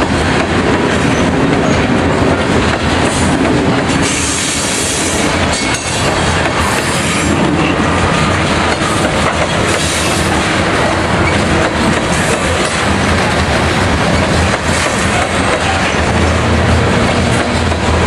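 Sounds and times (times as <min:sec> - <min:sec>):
rail clicks: 0:00.0 - 0:18.0
train wheels rushing on rails: 0:00.0 - 0:18.0.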